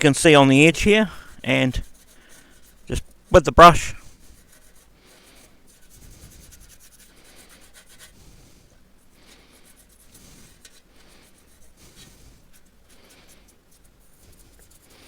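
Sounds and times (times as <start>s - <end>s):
paintbrush scrubbing on metal: 0.0s - 15.0s.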